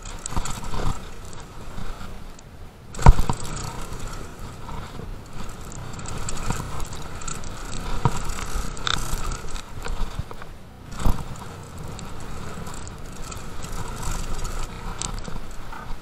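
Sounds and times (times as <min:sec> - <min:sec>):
bike chain and frame clattering: 0:00.0 - 0:16.0
tyres on dirt trail: 0:00.0 - 0:16.0.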